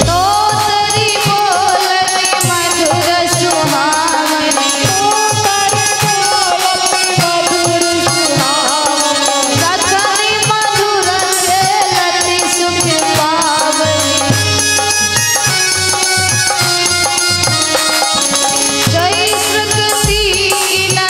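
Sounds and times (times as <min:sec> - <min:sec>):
jingling small percussion: 0:00.0 - 0:21.0
steady hand drum beat: 0:00.0 - 0:21.0.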